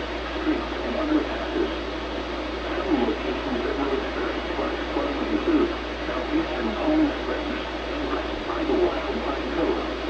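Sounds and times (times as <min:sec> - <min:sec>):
radio hiss: 0:00.0 - 0:10.0
voice through radio: 0:00.2 - 0:01.9, 0:02.6 - 0:10.0.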